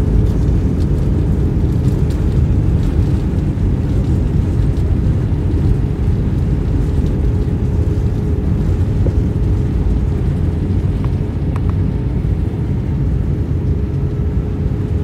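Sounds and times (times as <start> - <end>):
rumble of engines and wheels: 0.0 - 15.0.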